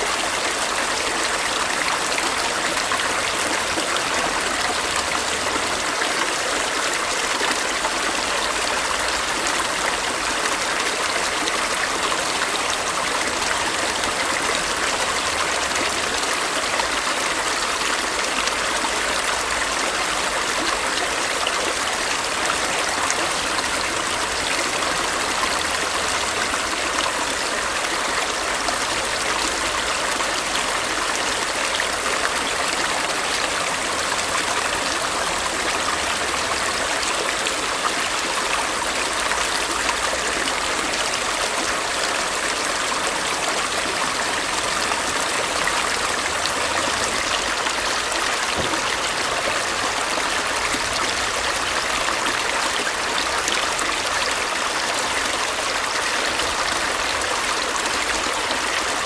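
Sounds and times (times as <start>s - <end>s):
stream water flowing and splashing: 0.0s - 59.0s.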